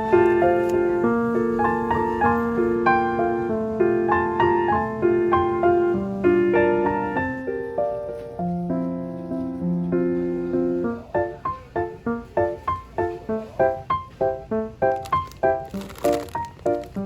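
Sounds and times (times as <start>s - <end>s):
gentle piano tune: 0.0s - 17.0s.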